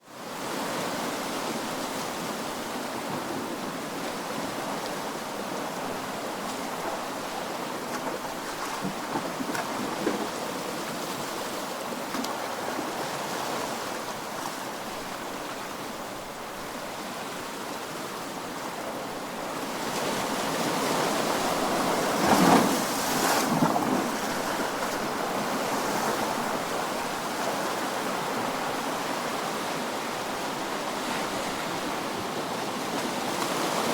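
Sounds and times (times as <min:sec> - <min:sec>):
ocean waves washing: 0:00.4 - 0:33.9.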